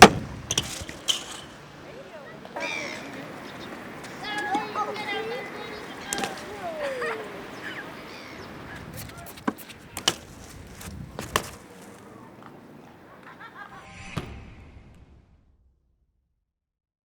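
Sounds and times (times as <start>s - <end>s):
steady background noise: 0.0s - 13.9s.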